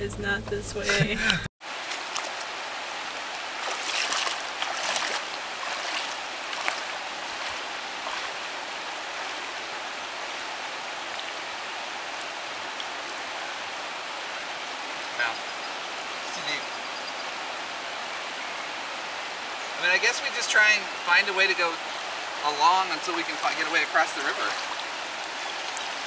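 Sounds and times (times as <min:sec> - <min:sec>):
river water rushing: 0:01.6 - 0:26.0.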